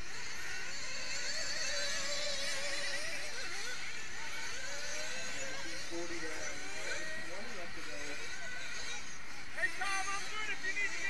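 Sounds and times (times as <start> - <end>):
model car engines whining: 0.0 - 11.0.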